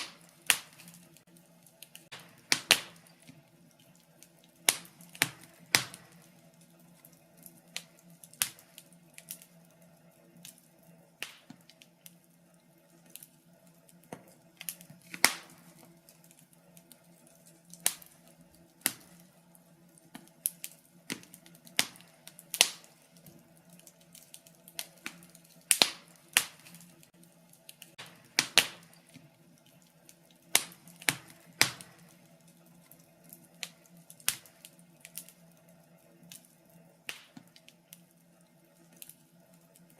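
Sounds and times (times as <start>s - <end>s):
sharp pops of burning wood: 0.0s - 9.6s, 10.4s - 12.2s, 12.9s - 35.4s, 36.2s - 38.2s, 38.8s - 39.2s
faint steady hum: 0.0s - 39.9s
wood fire crackling: 0.0s - 39.9s.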